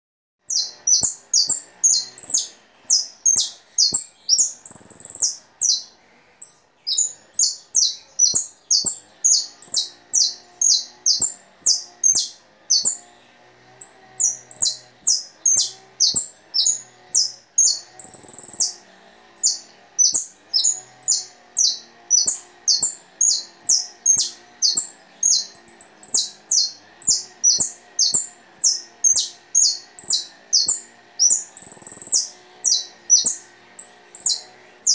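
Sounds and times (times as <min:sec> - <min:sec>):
songbird singing: 0:00.4 - 0:34.9.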